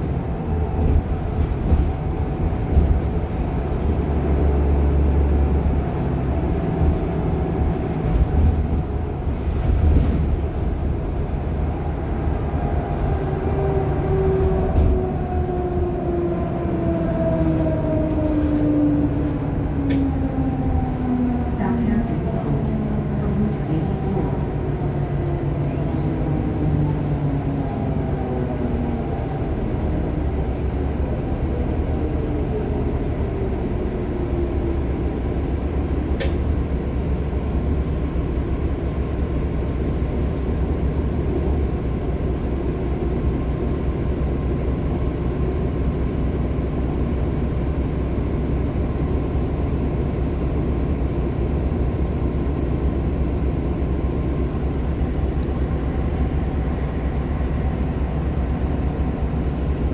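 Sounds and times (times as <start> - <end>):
bus engine rumbling: 0.0 - 59.9.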